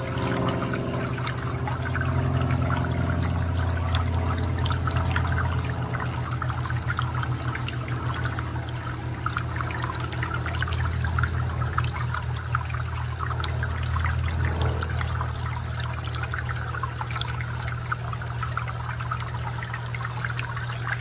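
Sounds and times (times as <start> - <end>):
constant low hum: 0.0 - 21.0
fountain water trickling: 0.0 - 21.0.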